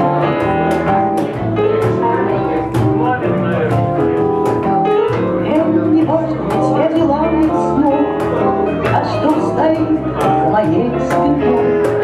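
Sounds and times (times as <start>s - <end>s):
electric bass: 0.0s - 12.0s
electric guitar: 0.0s - 12.0s
keyboard piano: 0.0s - 12.0s.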